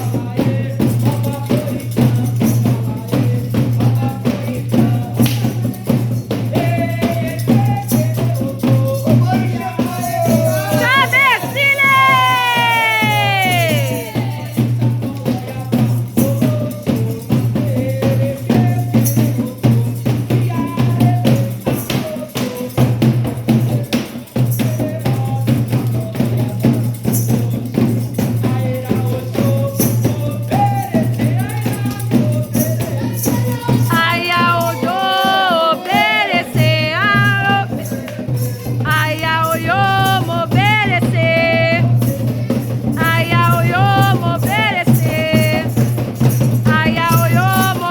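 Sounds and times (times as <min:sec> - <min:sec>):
drums playing fast rhythm: 0:00.0 - 0:47.9
people singing: 0:00.0 - 0:47.9
shaken rattles: 0:00.0 - 0:47.9.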